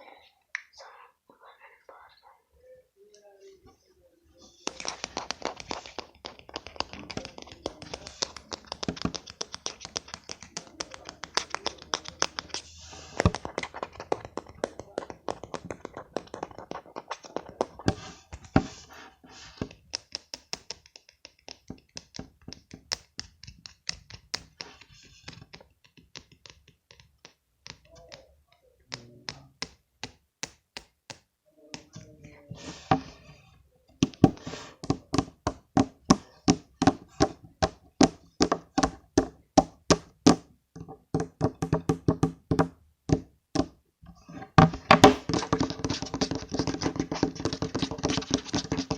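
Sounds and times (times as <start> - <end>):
fingers tapping on a smartphone: 4.6 - 18.9, 19.5 - 33.3, 34.0 - 48.9.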